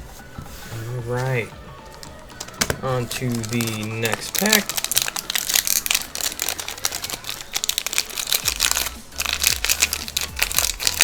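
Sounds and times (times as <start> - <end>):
foil wrapper crinkling: 0.8 - 11.0.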